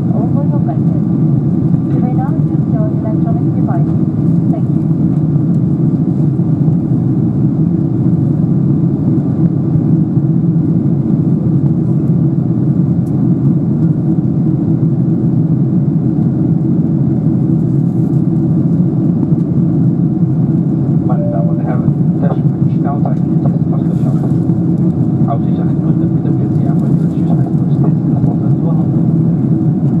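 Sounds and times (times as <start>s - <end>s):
jet engine drone: 0.0s - 30.0s.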